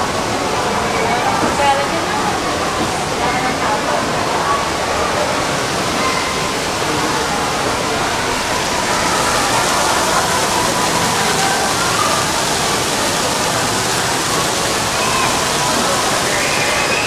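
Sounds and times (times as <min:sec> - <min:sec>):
crowd babble: 0:00.0 - 0:17.0.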